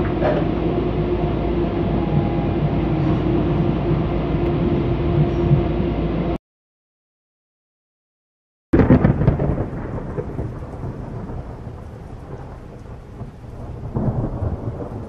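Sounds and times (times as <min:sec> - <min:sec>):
loud low rumble: 0:00.0 - 0:06.4, 0:08.8 - 0:15.0.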